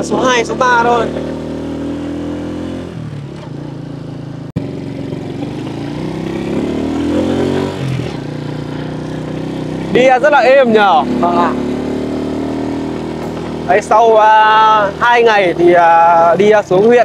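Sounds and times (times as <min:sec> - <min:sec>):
small motorbike engine revving: 0:00.0 - 0:16.4.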